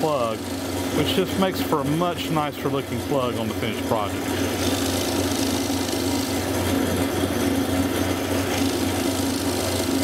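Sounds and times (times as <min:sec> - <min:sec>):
cutter rasping in wood: 0:00.0 - 0:10.0
drill press motor hum: 0:00.0 - 0:10.0.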